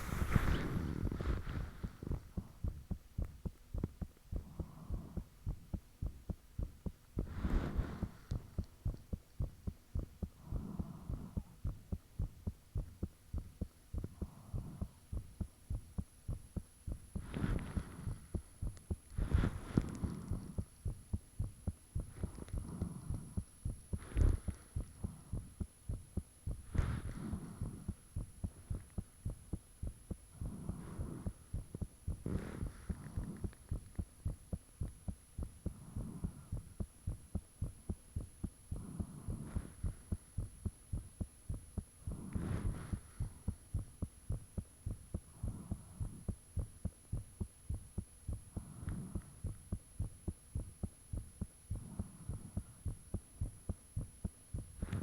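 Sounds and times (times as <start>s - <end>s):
heartbeat thumps: 0.0s - 55.0s.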